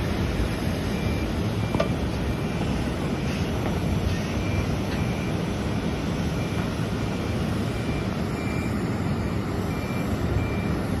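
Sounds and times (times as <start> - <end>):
vehicle traffic rumble: 0.0 - 11.0.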